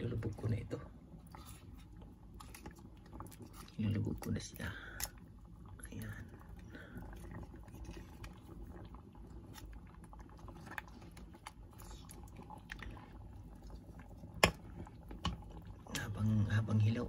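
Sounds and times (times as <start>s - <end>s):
broth bubbling: 0.0s - 17.0s.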